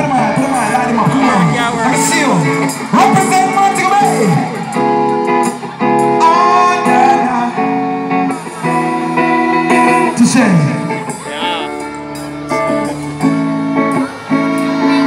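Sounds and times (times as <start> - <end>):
live reggae band with singing: 0.0 - 15.0.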